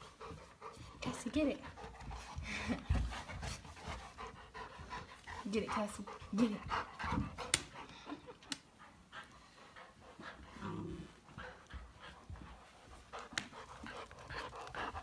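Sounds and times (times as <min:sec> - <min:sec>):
puppy panting: 0:00.0 - 0:15.0.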